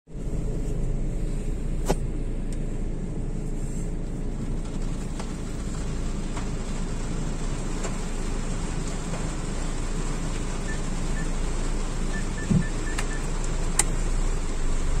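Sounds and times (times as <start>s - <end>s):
car engine running: 0.1s - 15.0s.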